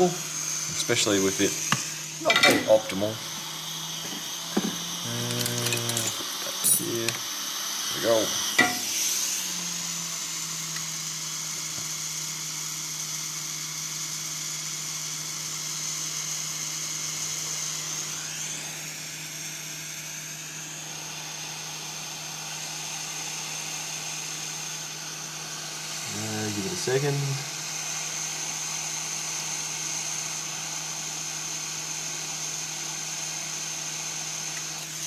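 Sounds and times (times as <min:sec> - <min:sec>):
hot air blower hissing: 0:00.0 - 0:35.0.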